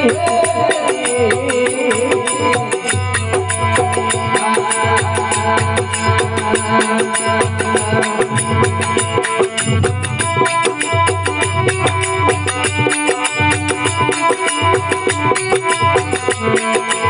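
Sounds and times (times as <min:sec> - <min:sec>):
fast percussion beat: 0:00.0 - 0:17.0.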